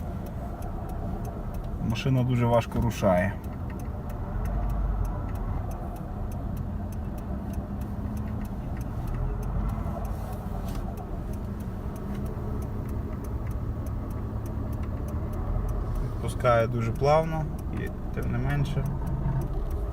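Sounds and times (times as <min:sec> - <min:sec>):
car drivetrain humming: 0:00.0 - 0:19.9
fast light ticking: 0:00.0 - 0:19.9.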